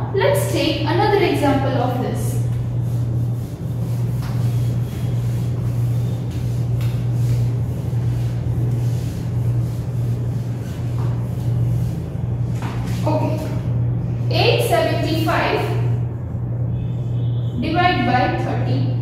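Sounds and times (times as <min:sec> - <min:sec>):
steady low hum: 0:00.0 - 0:19.0
duster wiping a whiteboard: 0:00.2 - 0:18.9.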